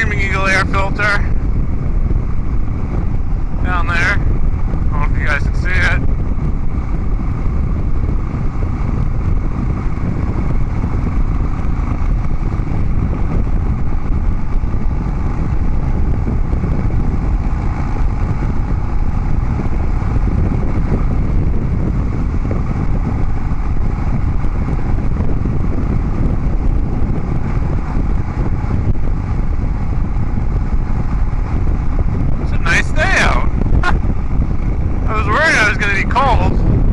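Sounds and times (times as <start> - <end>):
motorcycle exhaust while riding: 0.0 - 36.9.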